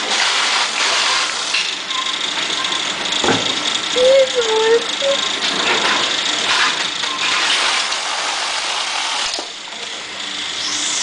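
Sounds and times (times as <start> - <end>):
sealing machine whir and rattle: 0.0 - 11.0.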